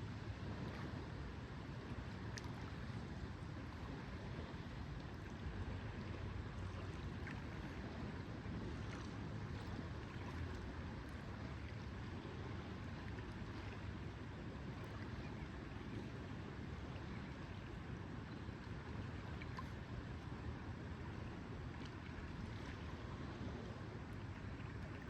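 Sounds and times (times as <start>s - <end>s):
small waves lapping: 0.0s - 25.0s.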